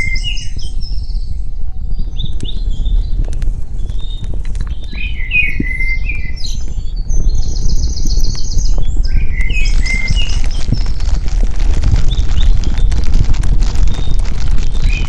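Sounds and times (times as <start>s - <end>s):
faint crackles: 0.0s - 15.0s
songbirds singing: 0.0s - 15.0s
steady low rumble: 0.0s - 15.0s.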